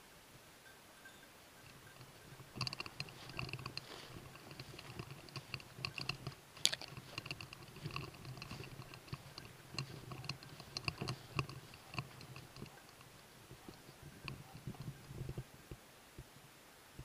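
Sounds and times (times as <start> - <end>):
small bell jingling: 0.6 - 15.5.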